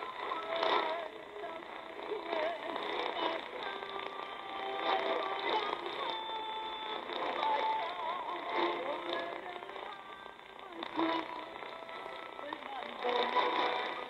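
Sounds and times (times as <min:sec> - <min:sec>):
radio music with long held notes: 0:00.0 - 0:14.0
shortwave reception hiss: 0:00.0 - 0:14.0.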